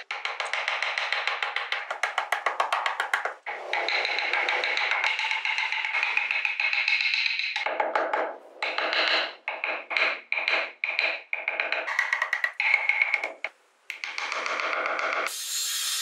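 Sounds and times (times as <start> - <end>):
wooden block tapping metal rod: 0.0 - 15.3.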